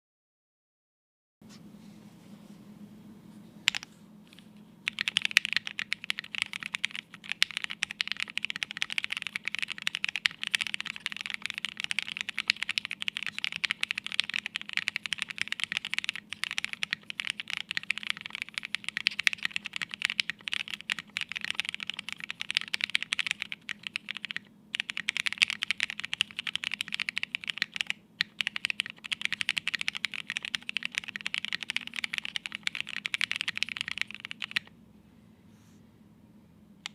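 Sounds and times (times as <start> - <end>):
mechanical keyboard typing: 4.8 - 34.7.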